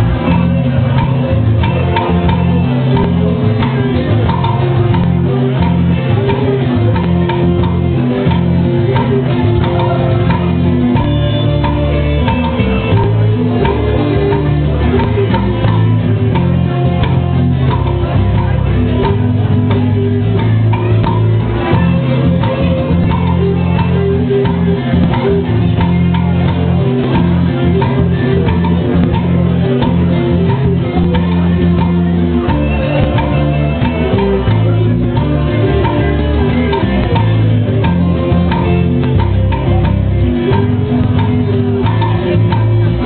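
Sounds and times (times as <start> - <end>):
acoustic guitar: 0.0 - 43.0
bass guitar: 0.0 - 43.0
drum kit: 0.0 - 43.0
electric guitar: 0.0 - 43.0.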